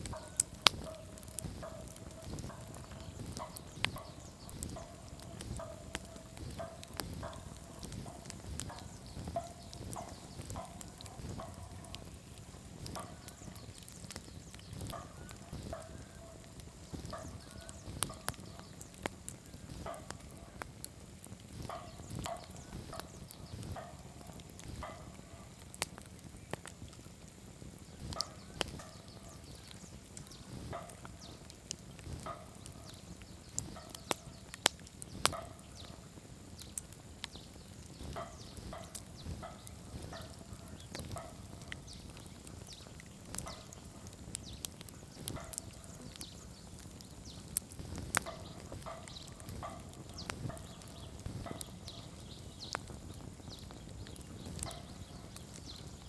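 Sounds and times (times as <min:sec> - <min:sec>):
campfire crackling and popping: 0:00.0 - 0:56.0
low rumble of burning fire: 0:00.0 - 0:56.0.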